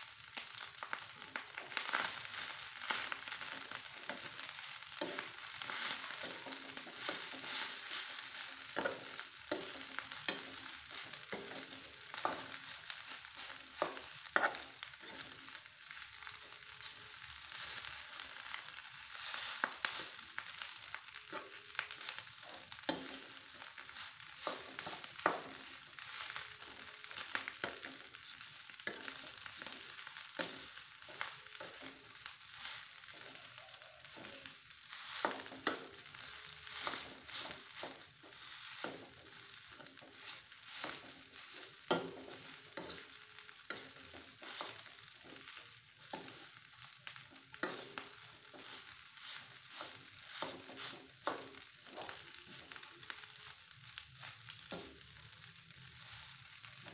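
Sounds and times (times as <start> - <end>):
rice sizzling in a frying pan: 0.0 - 56.9
spatula scraping a pan: 0.5 - 56.9.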